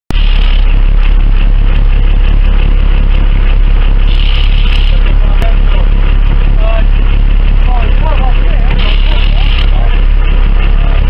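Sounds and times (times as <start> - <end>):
boat engine running: 0.1 - 11.0.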